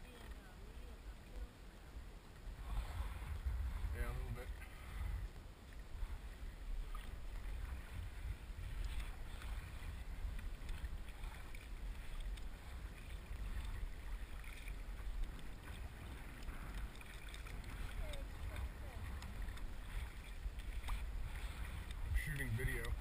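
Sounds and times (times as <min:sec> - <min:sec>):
paddle splashing in water: 0:00.0 - 0:23.0
wind rumble on microphone: 0:00.0 - 0:23.0.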